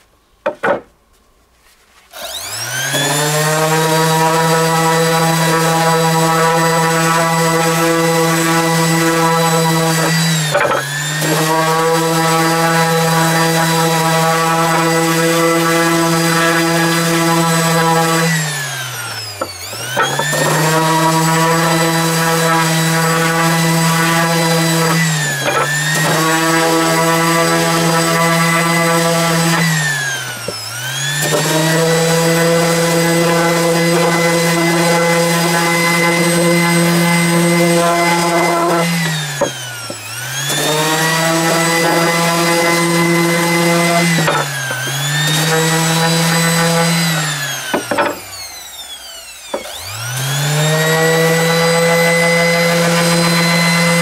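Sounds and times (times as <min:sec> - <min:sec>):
power tool motor whining: 0:02.1 - 0:54.0.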